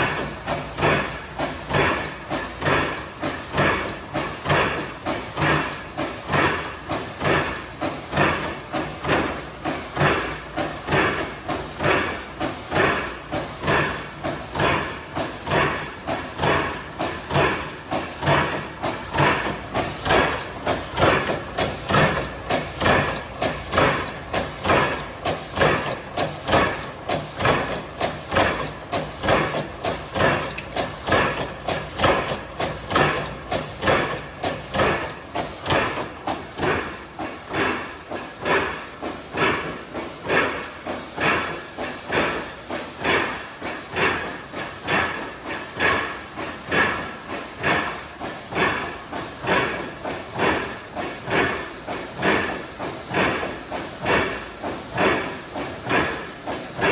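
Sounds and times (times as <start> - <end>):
filling machine rhythmic clatter: 0.0 - 56.9.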